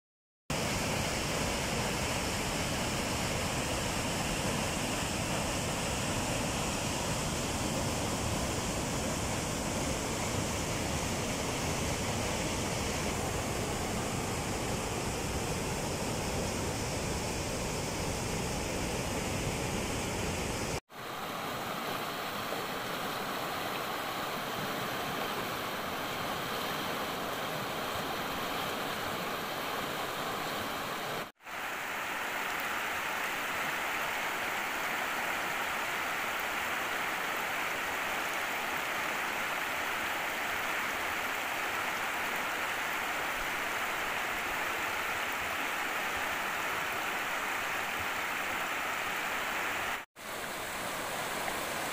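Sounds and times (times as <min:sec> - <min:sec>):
floodwater rushing and churning: 0:00.5 - 0:51.9.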